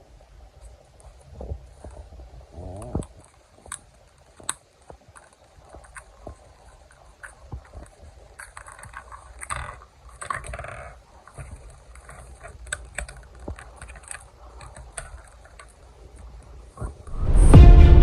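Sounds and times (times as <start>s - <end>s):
packaging rustling scrapes: 0.6s - 17.1s.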